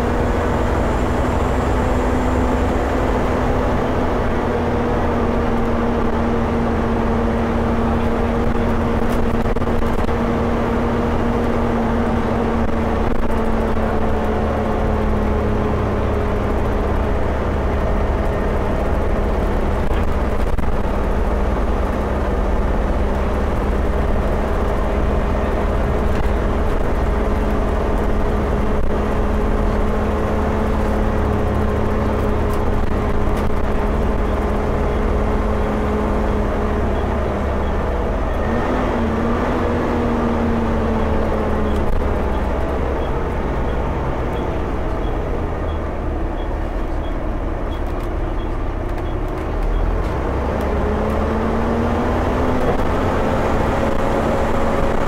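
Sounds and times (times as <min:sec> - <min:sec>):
bus engine and road drone: 0:00.0 - 0:55.0
bus whine: 0:00.0 - 0:55.0.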